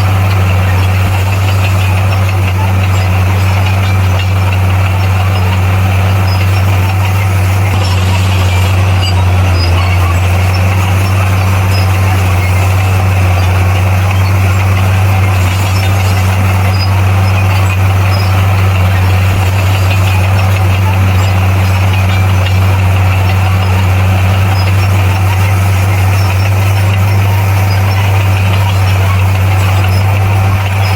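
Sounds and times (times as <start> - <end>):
bulldozer diesel engine drone: 0.0 - 30.9.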